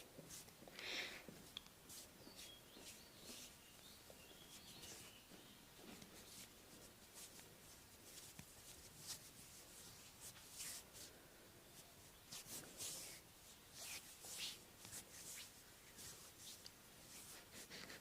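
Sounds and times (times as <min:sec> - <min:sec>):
hands rubbing over skin: 0:00.2 - 0:00.6, 0:01.4 - 0:03.7, 0:04.4 - 0:05.1, 0:06.0 - 0:11.1, 0:11.8 - 0:18.0.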